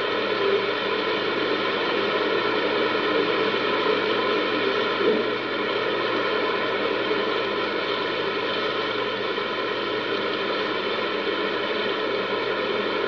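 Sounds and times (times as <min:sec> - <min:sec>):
buzzing hum: 0:00.0 - 0:13.0
loud static hiss: 0:00.0 - 0:13.0.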